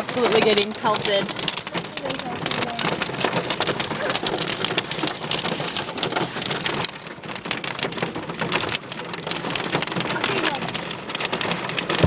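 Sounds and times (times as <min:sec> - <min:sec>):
hail pelting a car: 0:00.0 - 0:12.0.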